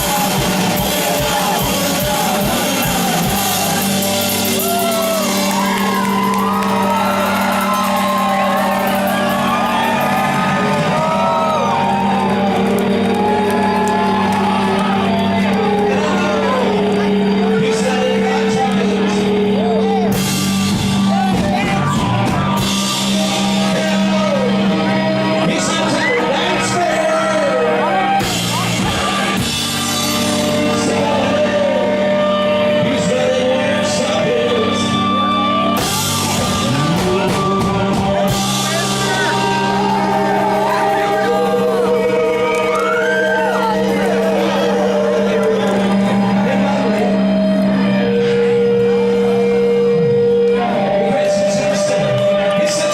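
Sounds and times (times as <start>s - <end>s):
drums pounding: 0.0s - 19.4s, 20.1s - 26.7s, 28.0s - 31.5s, 35.8s - 52.9s
voices whooping and shouting: 0.0s - 29.9s, 34.1s - 52.9s
person singing: 0.0s - 52.9s
rock band playing: 0.0s - 52.9s.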